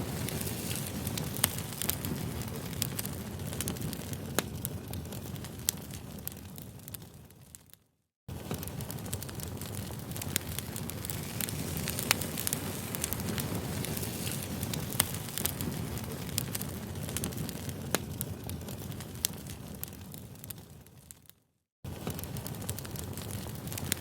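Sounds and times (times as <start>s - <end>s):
campfire flames rumbling: 0.0s - 7.7s, 8.3s - 24.0s
fire popping: 0.0s - 24.0s.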